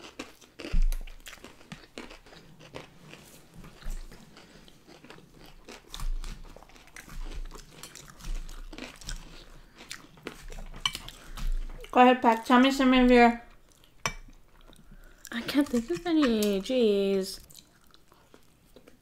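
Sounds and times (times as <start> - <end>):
crunchy chewing: 0.0 - 12.0, 13.5 - 16.7, 17.4 - 19.0.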